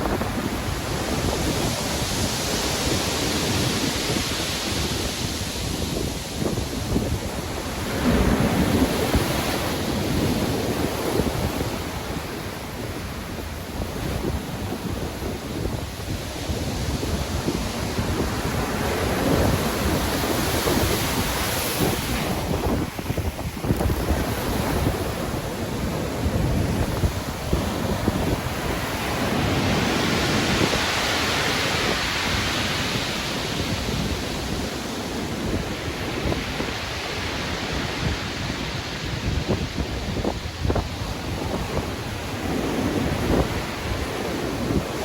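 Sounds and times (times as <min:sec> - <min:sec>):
ocean waves breaking: 0:00.0 - 0:45.0
strong wind: 0:00.0 - 0:45.0.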